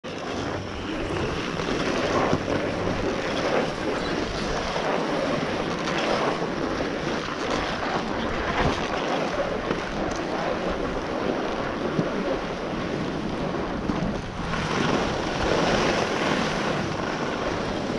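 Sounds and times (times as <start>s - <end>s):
wind buffeting microphone: 0.0s - 17.9s
skis scraping over snow: 0.1s - 17.9s.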